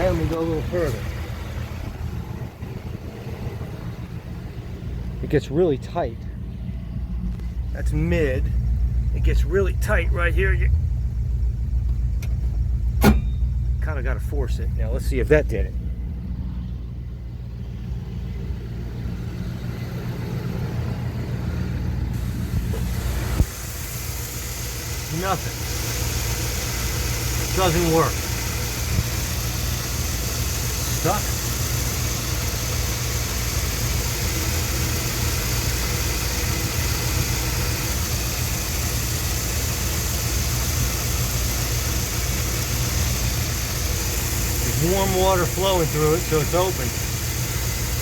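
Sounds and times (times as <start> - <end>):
pickup engine idling: 0.0 - 48.0.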